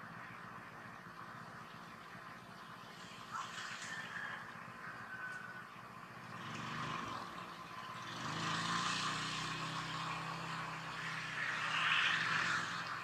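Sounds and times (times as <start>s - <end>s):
distant engine droning: 0.0s - 13.0s.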